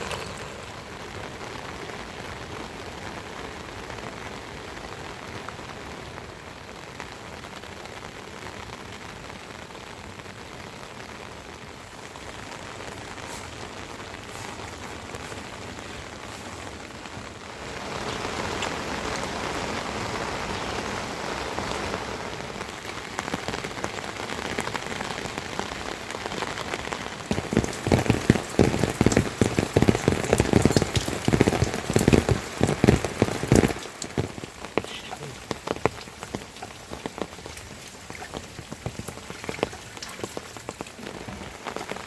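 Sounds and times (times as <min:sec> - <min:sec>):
large raindrops pattering close by: 0:00.0 - 0:42.0
rain falling: 0:00.0 - 0:42.0.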